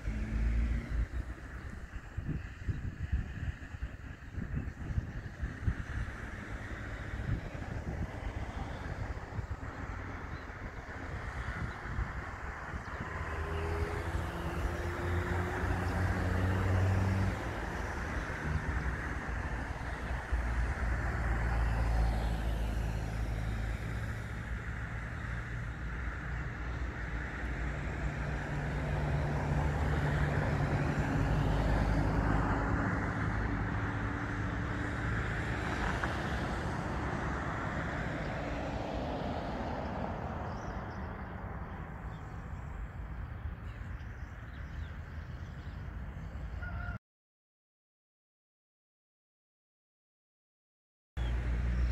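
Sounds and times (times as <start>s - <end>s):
vehicle engine rumbling: 0.0s - 46.6s.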